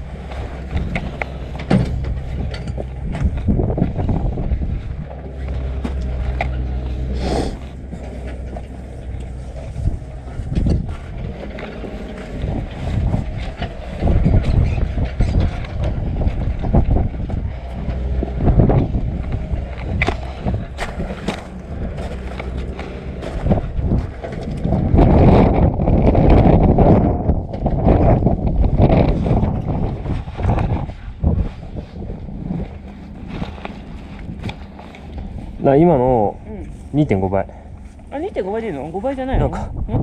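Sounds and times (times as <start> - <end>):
footsteps on loose gravel: 0.0 - 27.0, 27.6 - 39.2
wind buffeting microphone: 0.0 - 40.0.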